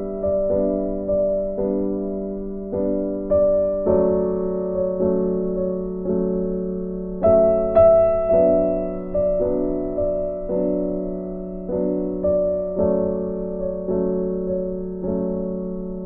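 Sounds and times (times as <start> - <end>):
soft piano notes: 0.0 - 16.0.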